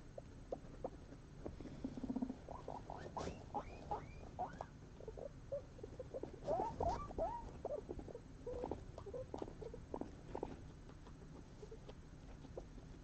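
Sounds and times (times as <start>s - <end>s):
guinea pigs squeaking: 0.0s - 13.0s.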